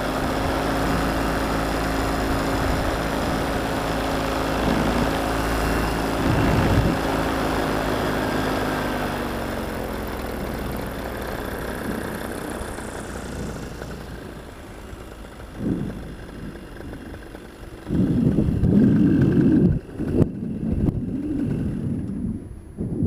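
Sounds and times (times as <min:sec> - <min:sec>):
paramotor engine humming: 0:00.0 - 0:23.0
wind buffeting microphone: 0:00.2 - 0:07.9, 0:10.8 - 0:23.0.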